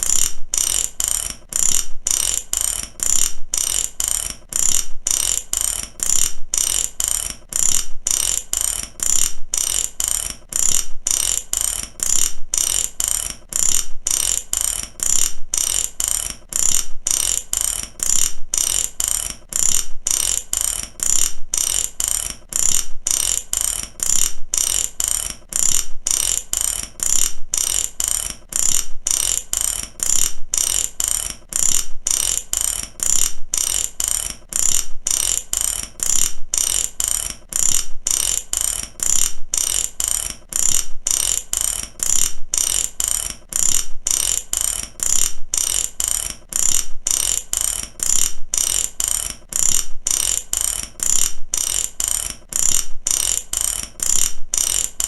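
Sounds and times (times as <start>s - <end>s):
ratchet wrench clicking: 0.0s - 55.0s.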